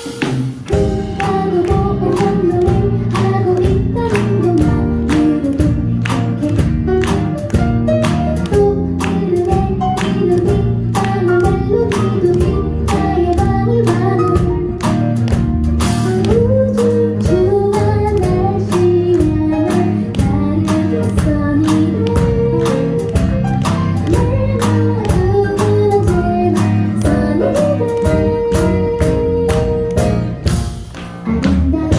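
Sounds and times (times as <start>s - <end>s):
guitar: 0.0s - 31.9s
woman singing: 0.7s - 15.3s, 16.0s - 30.4s, 31.3s - 31.9s.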